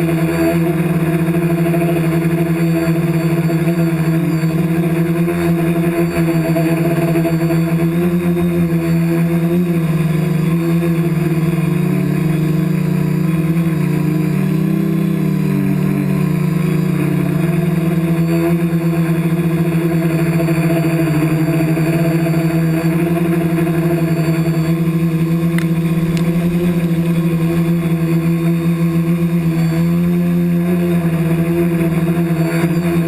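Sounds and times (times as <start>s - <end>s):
toy helicopter motor and rotor: 0.0s - 33.0s.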